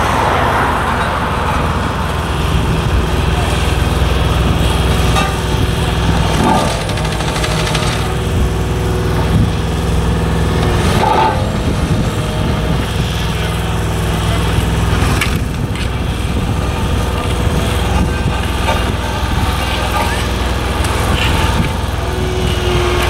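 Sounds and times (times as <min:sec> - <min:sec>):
asphalt roller engine: 0:00.0 - 0:23.0
dump truck engine running: 0:00.0 - 0:23.0.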